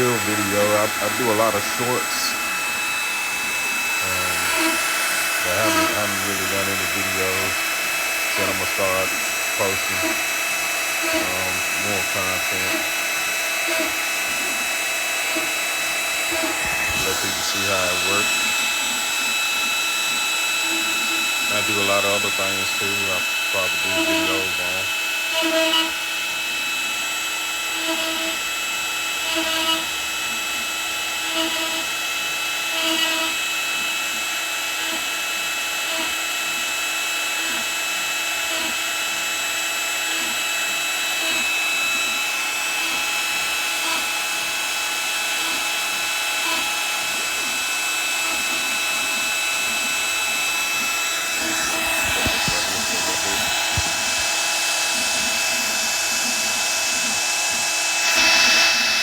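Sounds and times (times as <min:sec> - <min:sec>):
dust collector running: 0:00.0 - 0:59.0
router spindle whining: 0:00.0 - 0:59.0.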